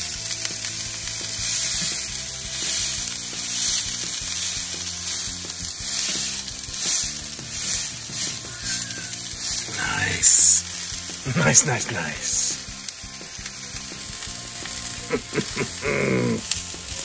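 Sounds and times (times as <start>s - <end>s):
steak sizzling on a hot plate: 0.0s - 17.0s.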